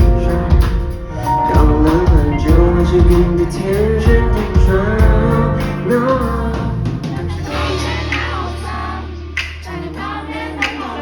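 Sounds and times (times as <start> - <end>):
pop song with vocals: 0.0 - 11.0.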